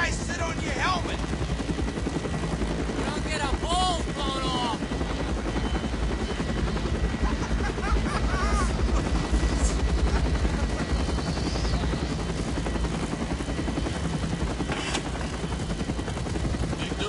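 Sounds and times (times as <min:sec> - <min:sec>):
helicopter engine: 0:00.0 - 0:17.0
helicopter rotor beating: 0:00.0 - 0:17.0.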